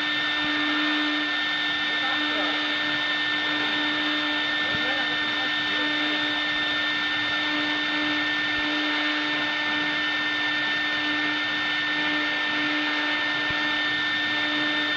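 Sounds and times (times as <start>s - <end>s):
router spindle whining: 0.0s - 14.9s.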